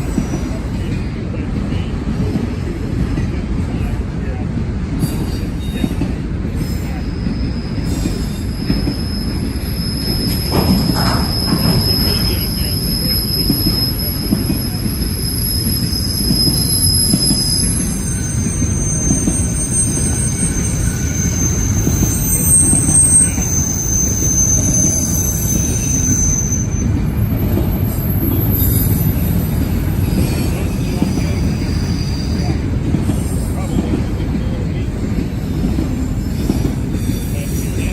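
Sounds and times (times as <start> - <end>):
railroad cars rumbling past: 0.0 - 37.9
steel wheels squealing: 5.0 - 37.9.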